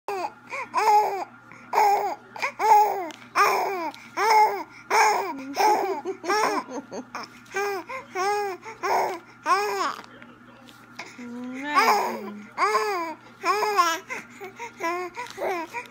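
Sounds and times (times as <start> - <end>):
baby cooing and babbling: 0.1 - 6.6, 7.2 - 10.0, 11.0 - 15.9.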